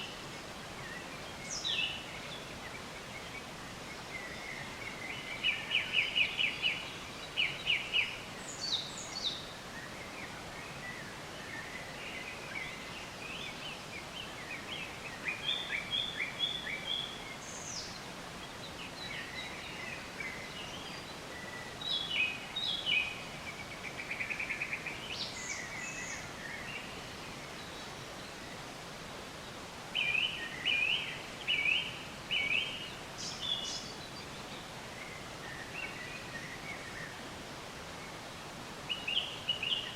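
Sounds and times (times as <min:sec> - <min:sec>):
songbirds singing and chirping: 0:00.0 - 0:39.9
steady background hiss: 0:00.0 - 0:39.9.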